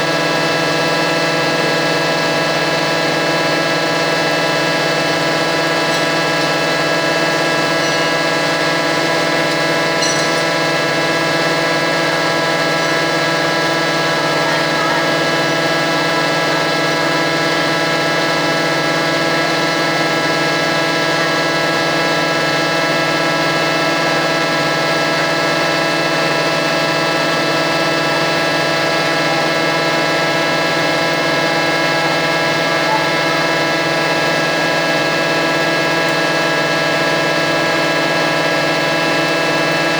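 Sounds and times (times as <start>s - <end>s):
mill machinery drone: 0.0s - 39.9s.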